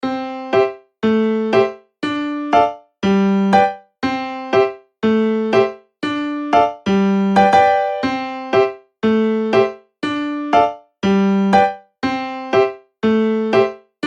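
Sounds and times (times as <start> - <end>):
electric piano tune: 0.0 - 14.0.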